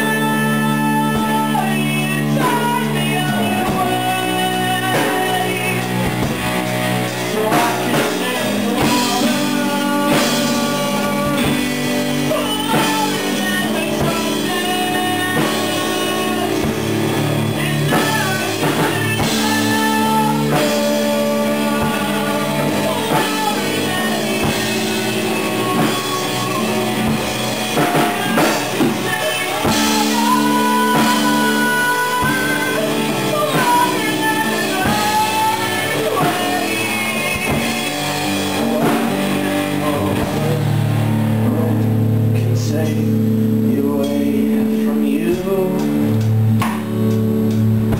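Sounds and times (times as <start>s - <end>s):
electric guitar lead line: 0.0s - 47.9s
rock band playing live: 0.0s - 47.9s.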